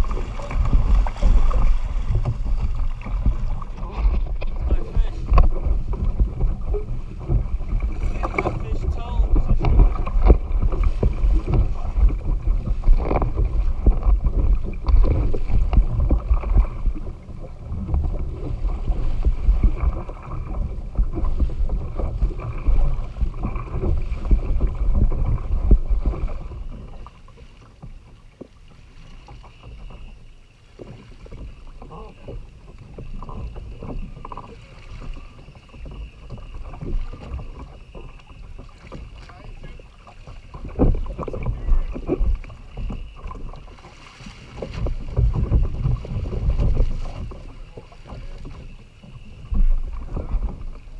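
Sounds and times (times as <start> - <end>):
water slapping on kayak hull: 0.0 - 50.9
wind rumbling on microphone: 0.0 - 50.9.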